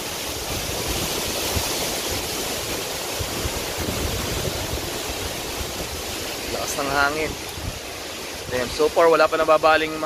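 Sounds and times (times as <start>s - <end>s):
strong wind rushing: 0.0s - 10.0s
wind buffeting microphone: 0.0s - 10.0s.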